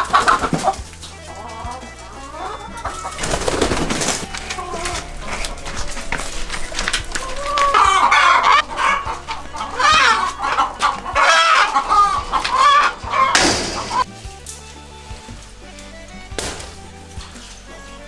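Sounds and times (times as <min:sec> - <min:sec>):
hens calling in alarm: 0:00.0 - 0:18.0.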